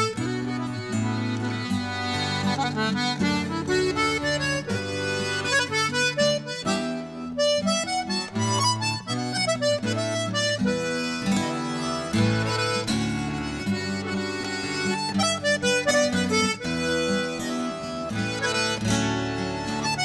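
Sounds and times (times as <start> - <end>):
button accordion folk tune: 0.0 - 20.0.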